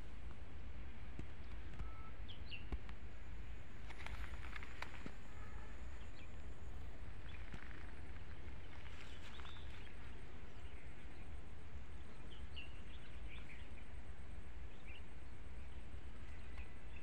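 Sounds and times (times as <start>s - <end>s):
wind rumble on microphone: 0.0s - 17.0s
faint bird chirps: 1.6s - 17.0s.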